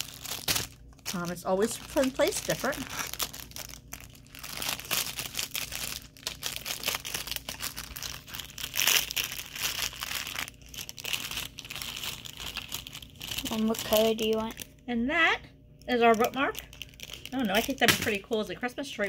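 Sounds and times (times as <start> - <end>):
plastic wrapping crinkling: 0.0 - 14.8, 15.8 - 19.0.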